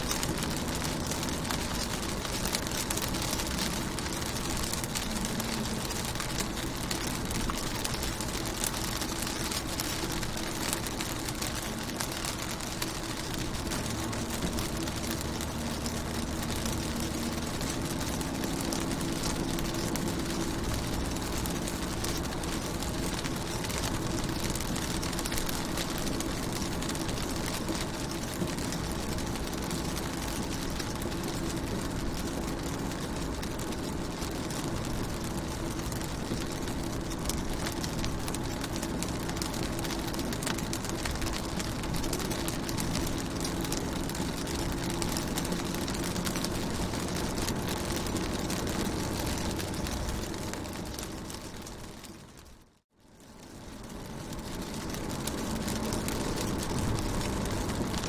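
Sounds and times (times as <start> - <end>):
rain on car windows: 0.0 - 58.0.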